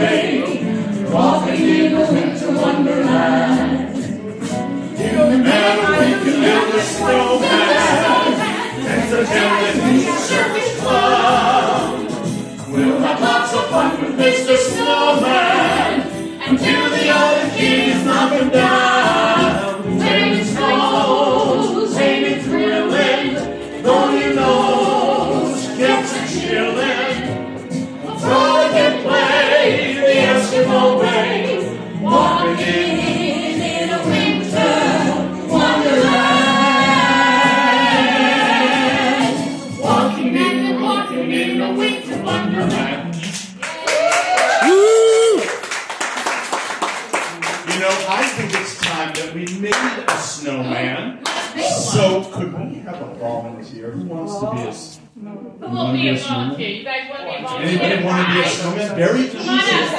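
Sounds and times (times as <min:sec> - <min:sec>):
group of people singing: 0:00.0 - 0:44.8, 0:50.2 - 0:52.5, 0:54.4 - 0:59.9
backing music: 0:00.0 - 0:55.8, 0:57.4 - 0:59.9.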